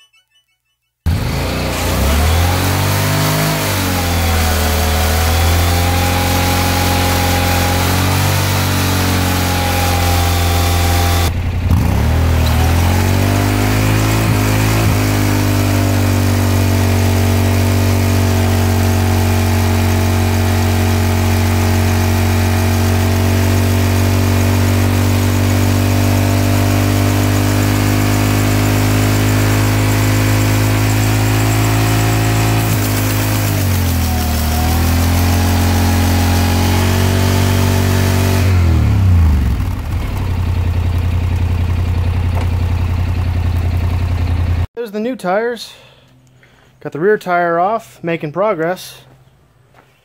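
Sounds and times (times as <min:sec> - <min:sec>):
motorcycle engine at high revs: 0:01.1 - 0:44.7
tire spinning: 0:01.1 - 0:44.7.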